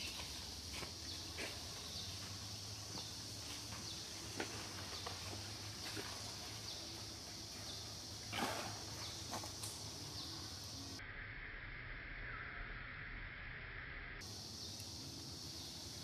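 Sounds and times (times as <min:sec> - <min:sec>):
lower-pitched insect drone: 0:00.0 - 0:16.0.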